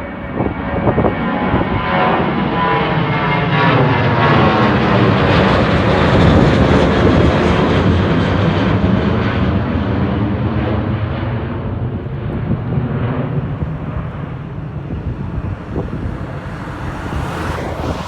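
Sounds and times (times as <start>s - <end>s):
airliner engine noise: 0.0s - 18.0s.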